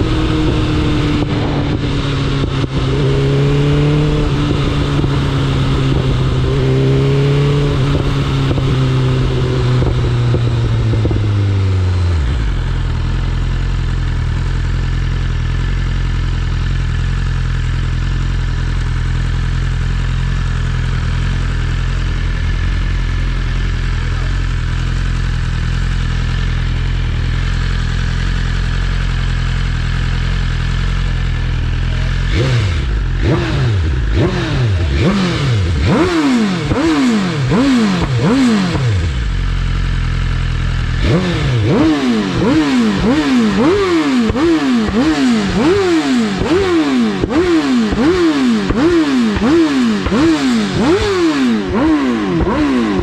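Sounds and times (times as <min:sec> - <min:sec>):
motorcycle engine idling: 0:00.0 - 0:53.0
motorcycle engine revving: 0:00.0 - 0:53.0.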